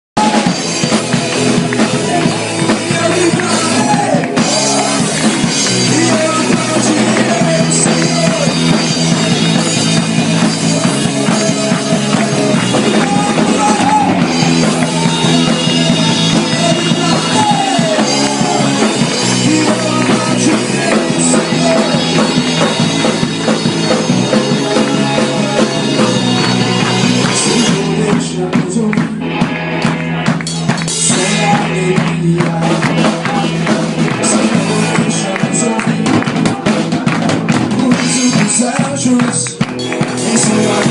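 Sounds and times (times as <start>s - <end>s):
person singing: 0.2s - 40.9s
rock music with drums: 0.2s - 40.9s.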